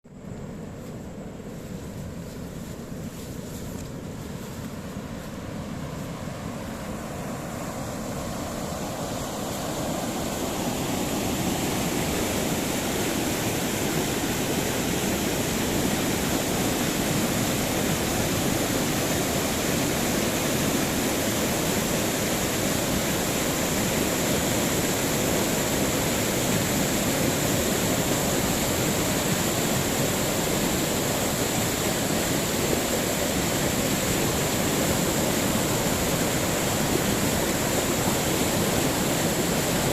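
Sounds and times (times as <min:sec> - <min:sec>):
waterfall rushing: 0:06.2 - 0:39.9.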